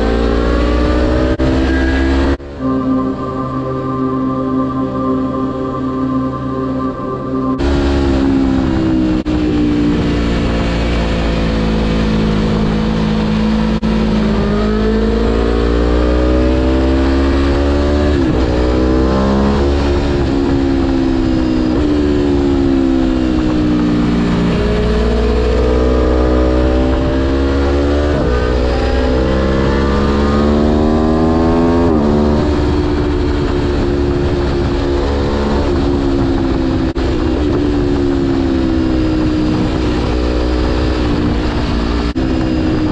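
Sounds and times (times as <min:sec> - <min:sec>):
motorcycle engine revving: 0:00.0 - 0:05.2, 0:06.2 - 0:42.9.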